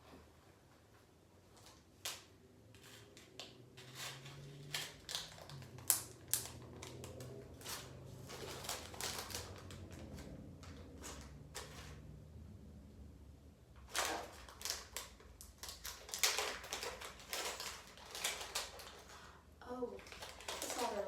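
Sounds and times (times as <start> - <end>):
plastic packaging crinkling: 1.6 - 12.0, 13.8 - 21.0.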